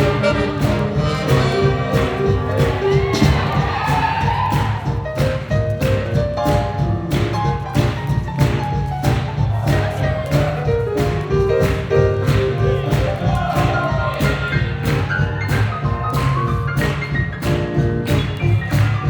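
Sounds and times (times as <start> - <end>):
live swing jazz band: 0.0 - 19.0.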